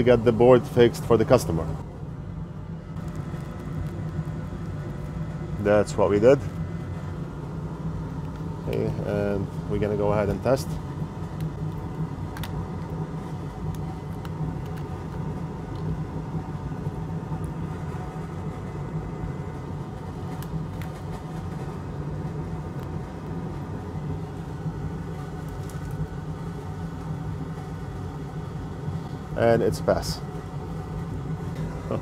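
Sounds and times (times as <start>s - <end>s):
fume extractor fan hum: 0.0s - 32.0s.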